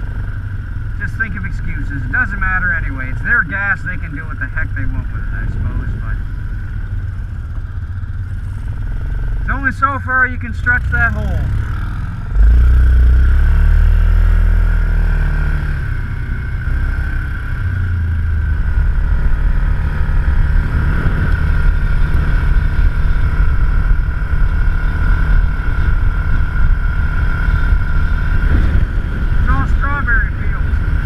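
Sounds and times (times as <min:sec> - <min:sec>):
atv engine rumbling: 0:00.0 - 0:31.0.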